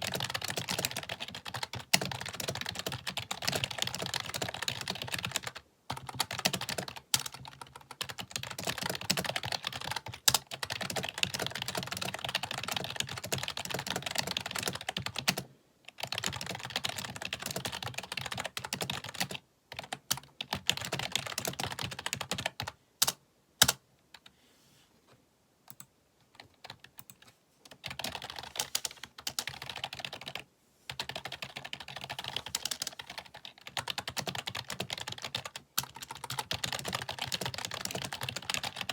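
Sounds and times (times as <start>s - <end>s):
fast typing on keyboard: 0.0s - 23.8s, 25.7s - 38.9s.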